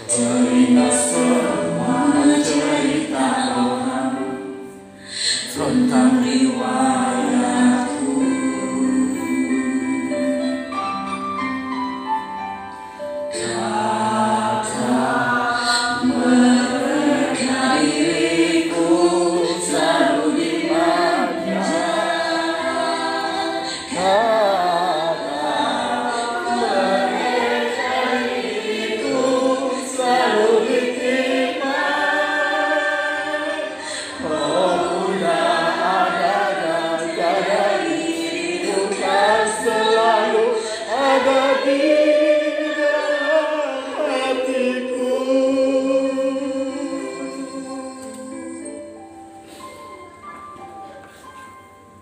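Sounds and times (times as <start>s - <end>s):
group of voices singing: 0.0s - 10.5s, 13.3s - 48.8s.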